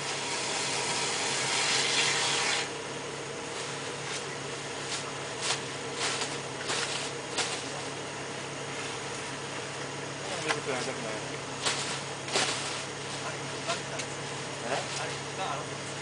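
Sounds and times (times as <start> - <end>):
ventilation blower humming: 0.0 - 16.0.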